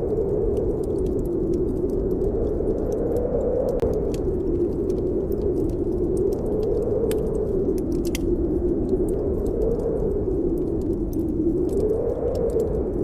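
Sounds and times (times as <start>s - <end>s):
snowstorm wind blowing: 0.0s - 13.0s
wood fire crackling and popping: 0.0s - 13.0s.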